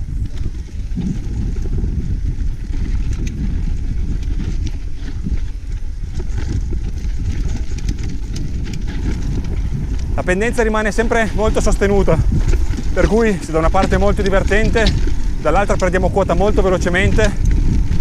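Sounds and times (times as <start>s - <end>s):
bike clicks and rattles: 0.0s - 18.0s
tyres rumbling on dirt: 0.0s - 18.0s
wind on microphone: 0.0s - 18.0s.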